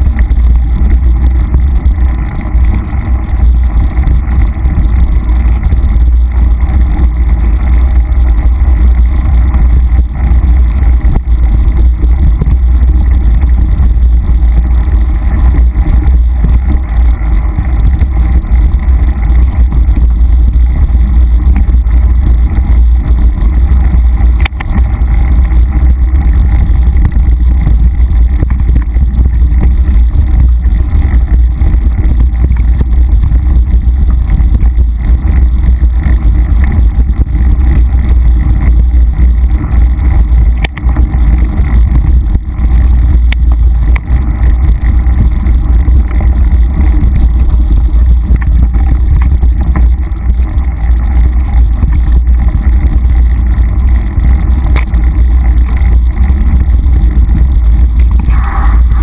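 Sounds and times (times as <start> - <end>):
bike rattling: 0.0 - 59.0
tyres rumbling on dirt trail: 0.0 - 59.0
wind on microphone: 0.0 - 59.0.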